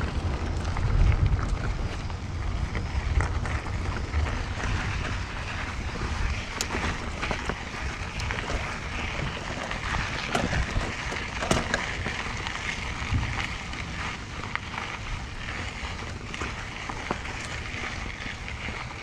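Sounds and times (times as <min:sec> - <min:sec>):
bike rattling and knocking: 0:00.0 - 0:19.0
bike tyres on dirt trail: 0:00.0 - 0:19.0
wind buffeting microphone: 0:00.0 - 0:19.0.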